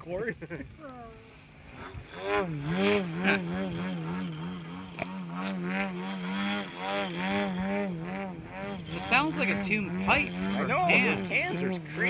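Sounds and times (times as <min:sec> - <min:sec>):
model plane engine wavering: 0:01.1 - 0:12.0.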